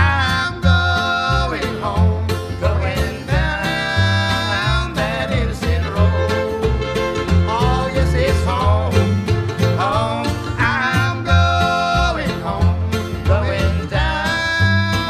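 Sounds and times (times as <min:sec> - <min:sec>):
old-time string band music: 0:00.0 - 0:15.0.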